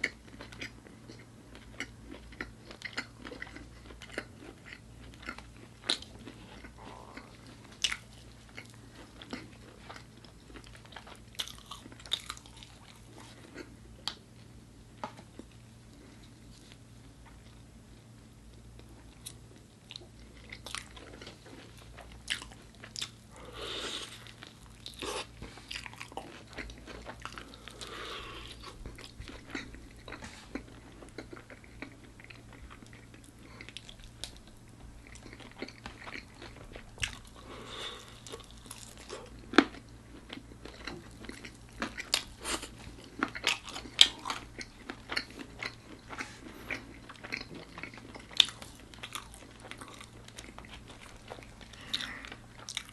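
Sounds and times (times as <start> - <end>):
crunching and chewing crispy chicken: 0.0 - 52.9.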